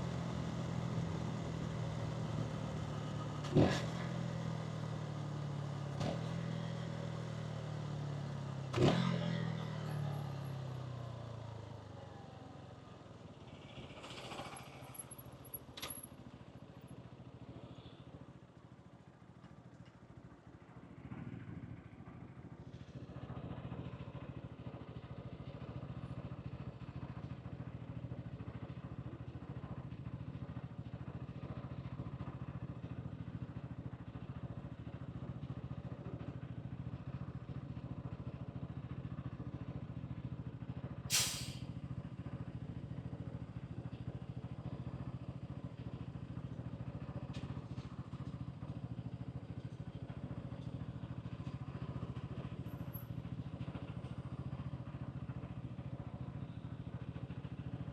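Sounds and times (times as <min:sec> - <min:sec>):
motorcycle engine running: 0:00.0 - 0:19.2, 0:20.1 - 0:57.9.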